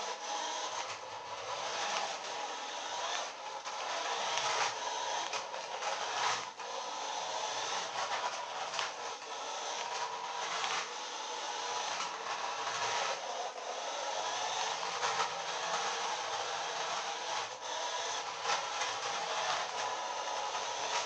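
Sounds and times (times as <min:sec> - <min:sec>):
toy car motor whirring: 0:00.0 - 0:21.0.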